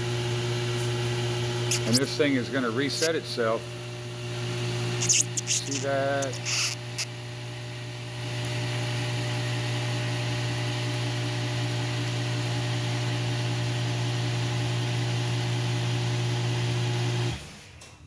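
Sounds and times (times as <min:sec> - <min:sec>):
submersible pump humming and hissing: 0:00.0 - 0:17.7.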